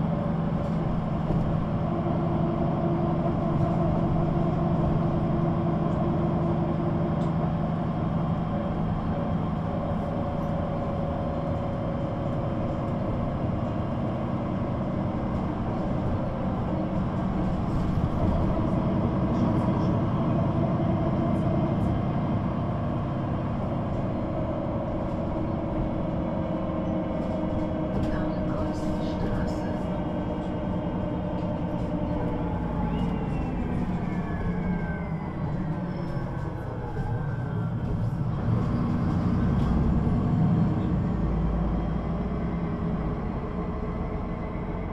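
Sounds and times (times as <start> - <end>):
bus diesel engine running: 0.0 - 44.9.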